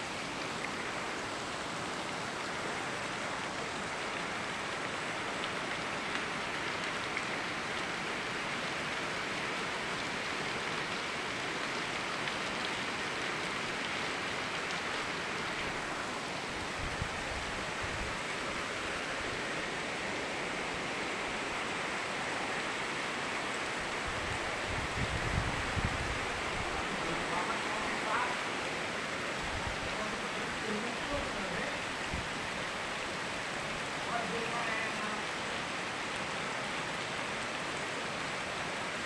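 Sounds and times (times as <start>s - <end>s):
river flowing: 0.0s - 39.0s
steady rain: 0.0s - 39.0s.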